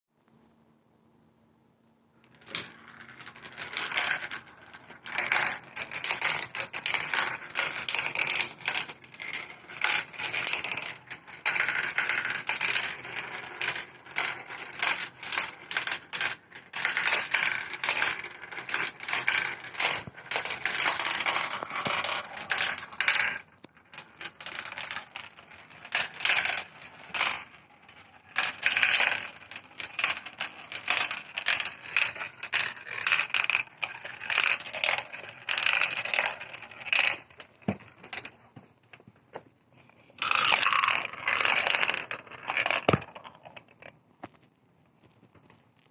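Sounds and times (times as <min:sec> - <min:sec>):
marbles rolling and clattering: 0:02.2 - 0:38.4, 0:40.1 - 0:45.9.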